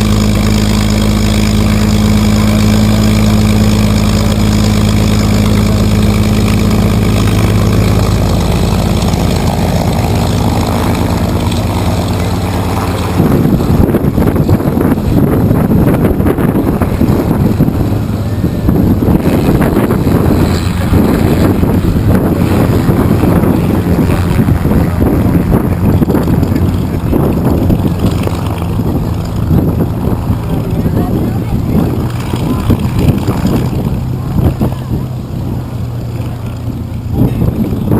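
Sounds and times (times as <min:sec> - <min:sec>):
aircraft engine idling: 0:00.0 - 0:37.9
wind buffeting microphone: 0:00.0 - 0:37.9.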